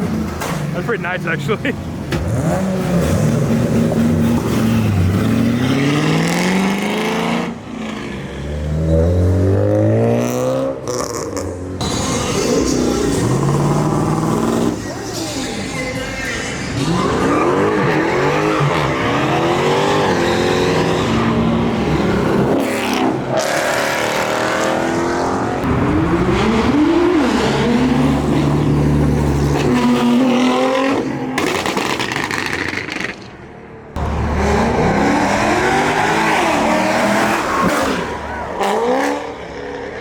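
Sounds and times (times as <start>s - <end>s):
car engine revving: 0.0s - 33.2s, 34.0s - 40.0s.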